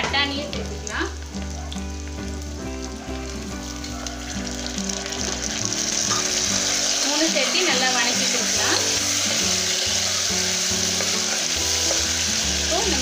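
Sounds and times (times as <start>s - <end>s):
background music: 0.0s - 13.0s
vegetables sizzling in hot oil: 0.0s - 13.0s.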